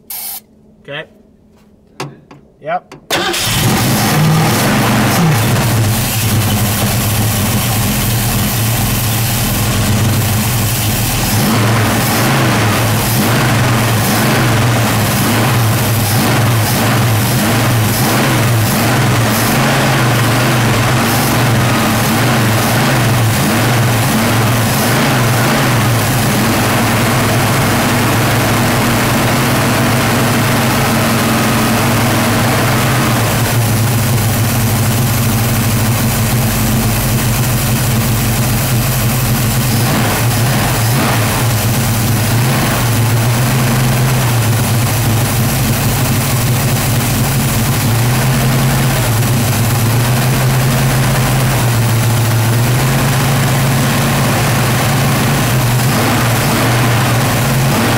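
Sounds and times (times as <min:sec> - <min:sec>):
car engine at high idle: 0:03.1 - 0:57.9.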